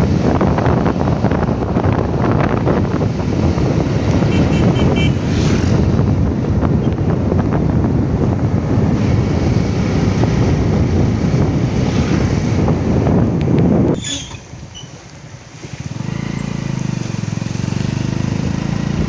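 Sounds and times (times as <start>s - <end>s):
vehicle noise: 0.0s - 19.0s
wind buffeting microphone: 0.0s - 19.0s.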